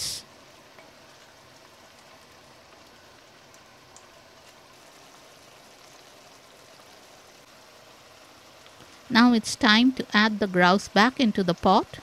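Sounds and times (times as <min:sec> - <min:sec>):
stew sizzling in a pot: 0:00.0 - 0:12.0.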